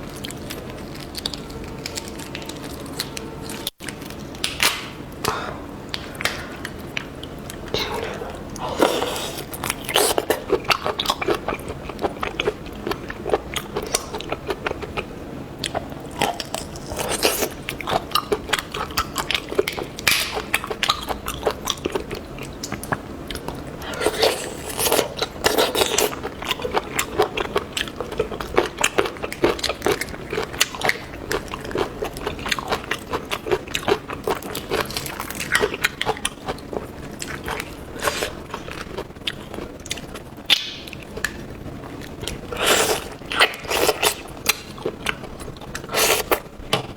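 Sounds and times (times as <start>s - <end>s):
crunchy chewing of seafood: 0.0s - 46.9s.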